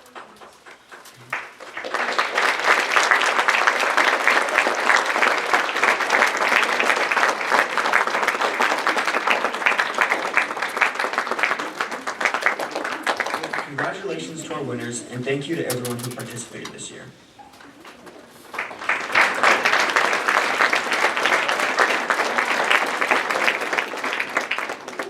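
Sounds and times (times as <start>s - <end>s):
audience applauding: 0.0s - 17.0s, 17.8s - 25.0s.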